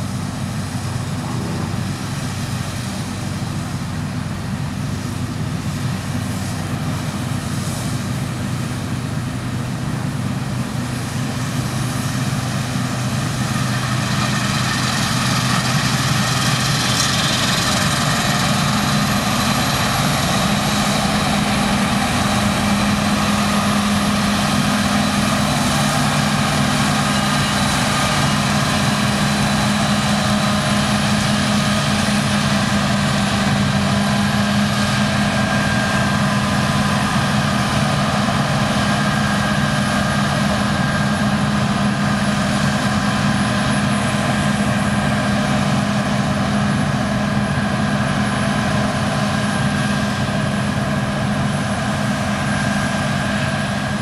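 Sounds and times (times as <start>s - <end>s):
combine harvester engine drone: 0.0s - 54.0s
high whines from drives: 0.0s - 54.0s.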